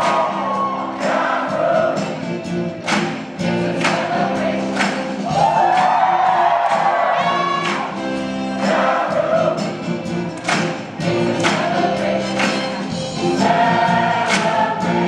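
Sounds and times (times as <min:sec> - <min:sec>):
group of voices singing: 0:00.0 - 0:15.0
pop-funk music with beat: 0:00.0 - 0:15.0.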